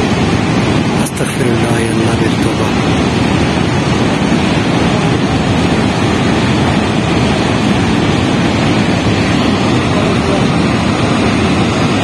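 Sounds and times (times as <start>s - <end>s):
river rushing loudly: 0.0s - 12.0s.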